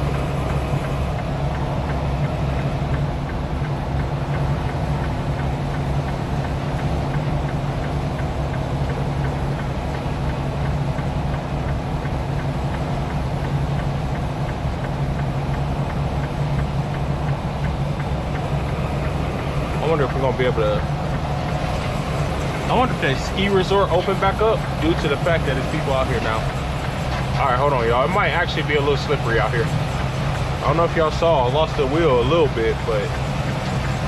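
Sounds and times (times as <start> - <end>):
ticking of chained tires: 0.0 - 34.0
truck engine running: 0.0 - 34.0.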